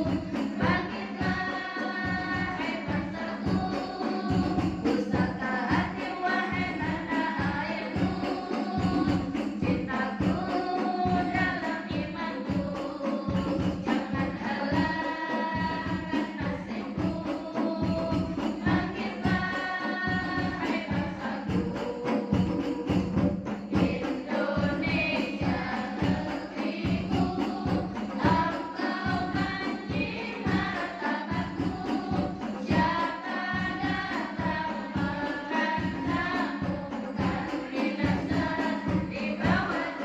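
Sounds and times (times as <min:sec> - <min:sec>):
hand drums beating: 0:00.0 - 0:40.0
women's choir singing: 0:00.0 - 0:40.0.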